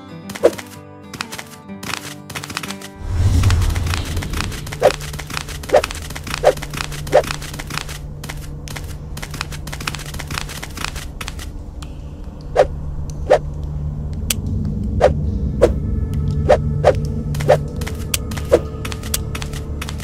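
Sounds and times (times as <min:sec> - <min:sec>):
steady low hum: 0:03.0 - 0:20.0.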